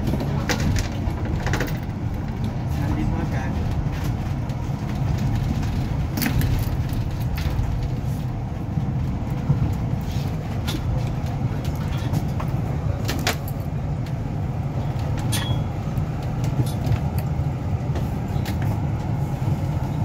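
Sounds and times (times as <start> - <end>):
bodywork rattles and clicks: 0.0 - 19.2
bus engine and road rumble: 0.0 - 20.0.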